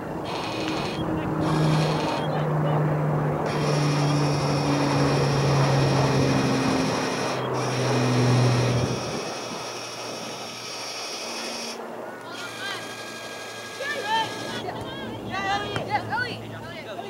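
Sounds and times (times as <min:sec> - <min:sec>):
small motor humming: 0:00.0 - 0:14.8.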